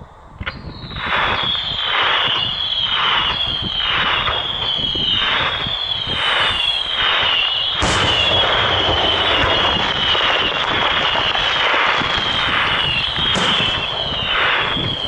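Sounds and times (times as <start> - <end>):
firework whistles: 0.4 - 15.0
firework bang: 1.1 - 15.0.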